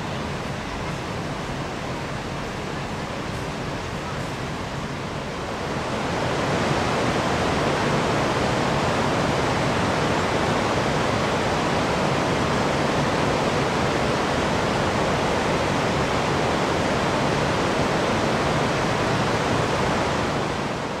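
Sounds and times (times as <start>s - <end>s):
river falls and rapids rushing: 0.0s - 21.0s.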